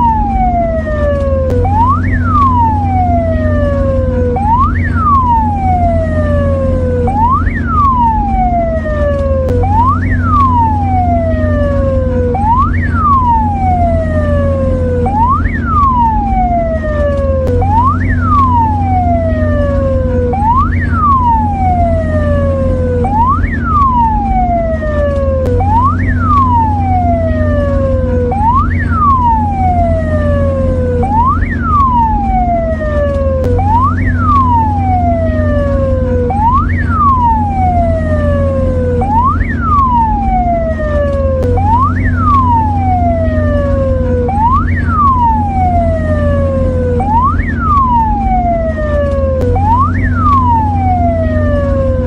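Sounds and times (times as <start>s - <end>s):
ambulance siren wailing: 0.0s - 52.0s
steady low hum: 0.0s - 52.0s.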